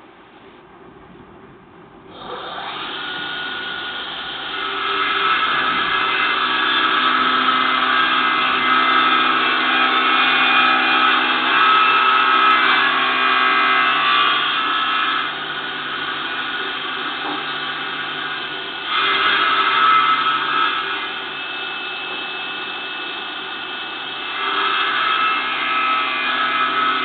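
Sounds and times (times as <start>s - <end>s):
table saw running: 2.1s - 27.0s.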